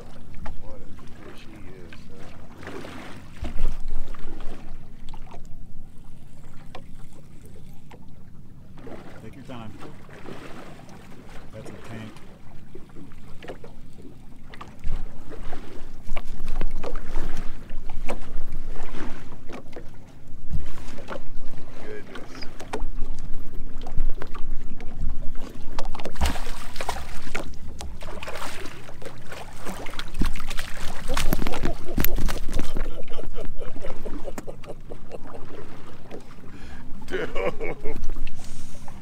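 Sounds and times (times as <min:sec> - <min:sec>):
faint steady hum: 0:03.3 - 0:39.0.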